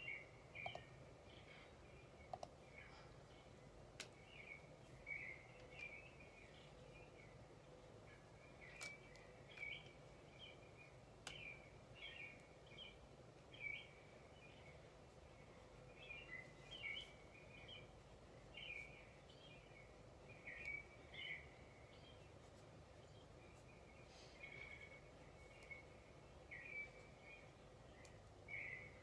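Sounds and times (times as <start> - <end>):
faint songbird chirping: 0.0 - 29.0
low background hiss: 0.0 - 29.0.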